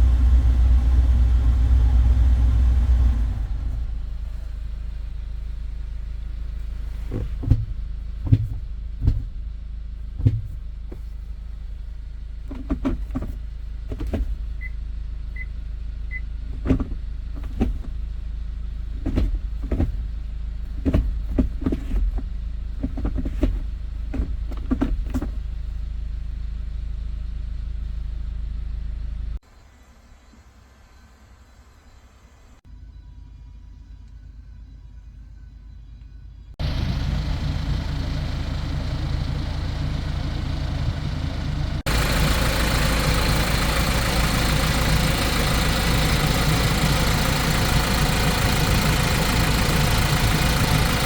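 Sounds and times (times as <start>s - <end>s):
truck engine idling: 0.0s - 30.0s, 36.6s - 51.0s.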